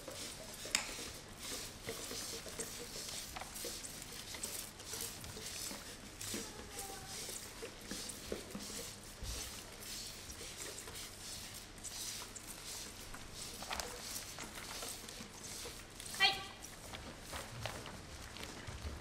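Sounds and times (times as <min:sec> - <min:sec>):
spray bottles hissing: 0:00.0 - 0:16.8.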